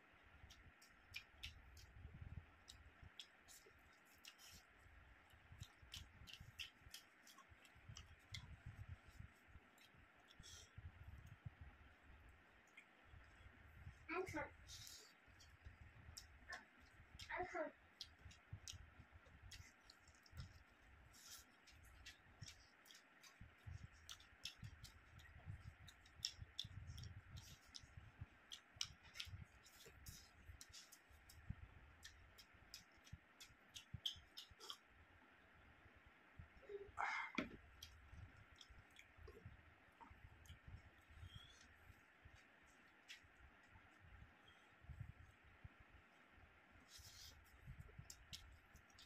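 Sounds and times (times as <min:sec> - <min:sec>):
chewing and lip-smacking: 0:00.4 - 0:14.0, 0:14.7 - 0:34.9, 0:37.6 - 0:45.1, 0:46.9 - 0:49.0.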